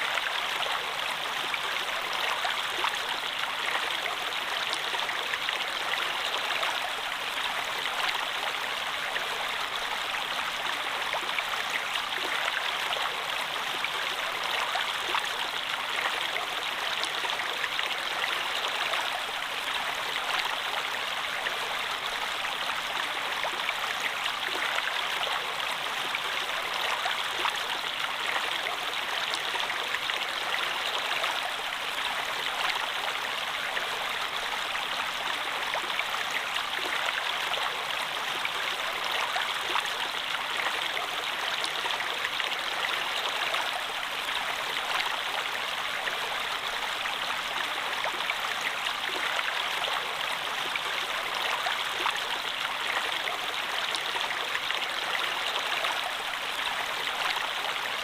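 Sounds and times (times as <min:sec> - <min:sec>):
stream babbling and splashing: 0:00.0 - 0:58.0.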